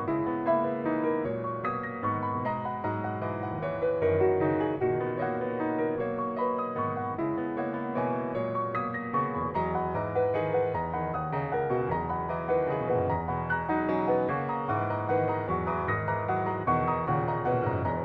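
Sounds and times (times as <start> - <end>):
solo piano playing: 0.0 - 18.0.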